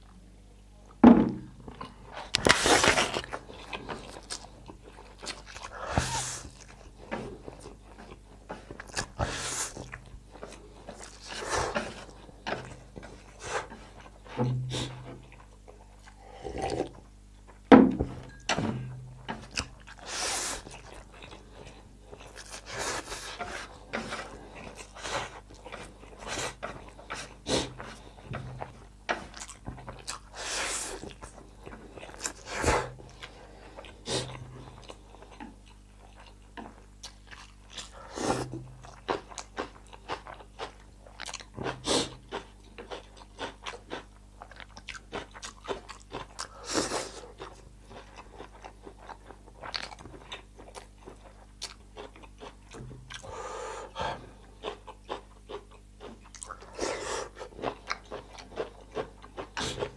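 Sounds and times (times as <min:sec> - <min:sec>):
person chewing noodles: 0:01.6 - 0:17.6, 0:18.3 - 0:59.9.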